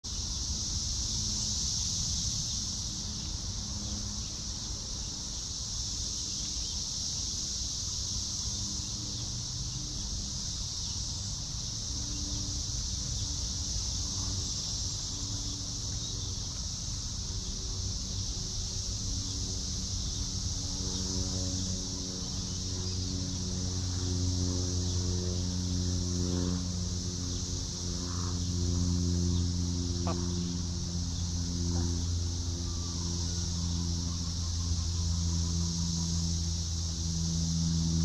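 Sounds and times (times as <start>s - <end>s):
insects buzzing: 0.0s - 38.0s.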